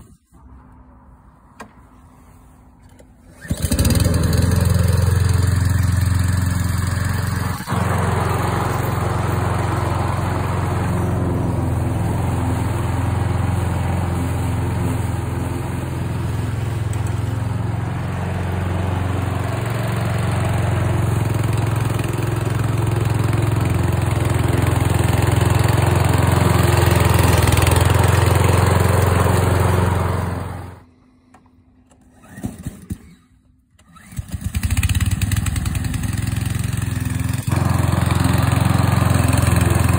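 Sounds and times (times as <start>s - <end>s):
lawnmower engine cutting grass: 3.2s - 30.9s, 33.8s - 39.9s.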